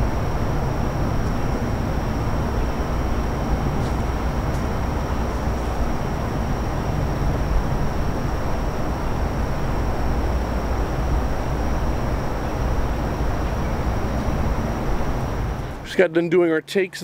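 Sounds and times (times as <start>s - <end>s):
low rumble of distant machinery: 0.0s - 17.0s.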